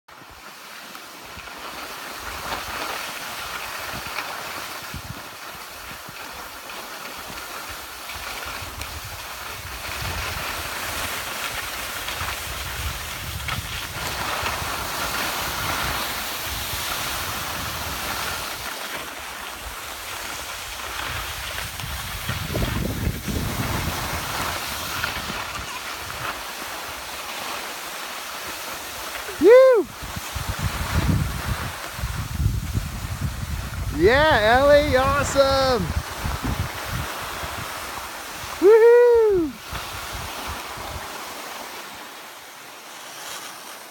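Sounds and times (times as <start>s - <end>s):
skis scraping over snow: 0.1s - 43.9s.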